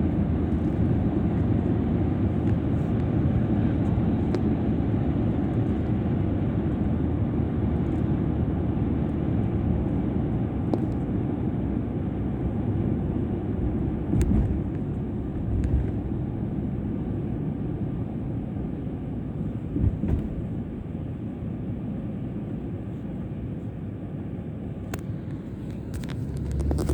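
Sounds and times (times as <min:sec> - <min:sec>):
moving vehicle rumble: 0:00.0 - 0:26.9.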